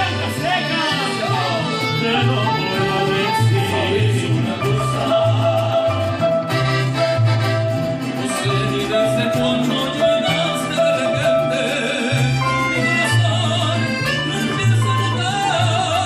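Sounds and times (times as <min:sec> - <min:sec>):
accordion: 0:00.0 - 0:16.0
guitars: 0:00.0 - 0:16.0
plucked bass line: 0:00.0 - 0:16.0.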